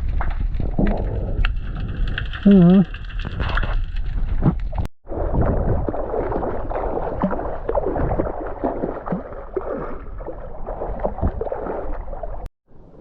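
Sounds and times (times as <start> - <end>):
water sloshing and gurgling: 0.0 - 12.5
bubbly pops: 0.6 - 12.5.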